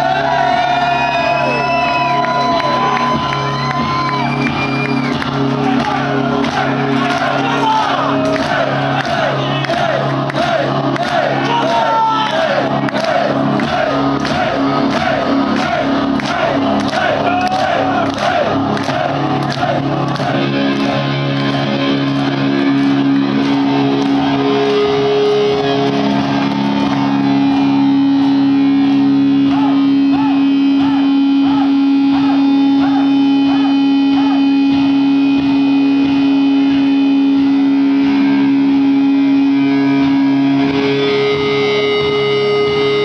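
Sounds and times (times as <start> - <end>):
crowd noise: 0.0 - 43.0
distorted electric guitar: 0.0 - 43.0.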